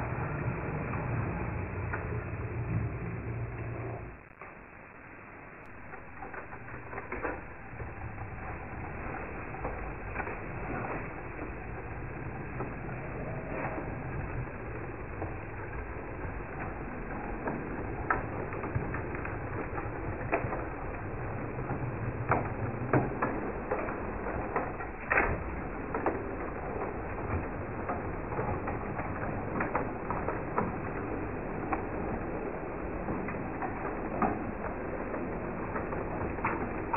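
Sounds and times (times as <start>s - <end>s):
wheels clicking on rails: 5.7s - 36.9s.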